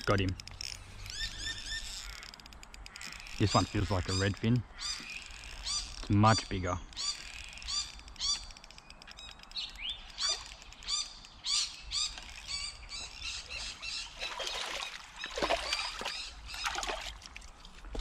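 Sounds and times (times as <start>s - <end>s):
bird calling: 0.0s - 17.2s.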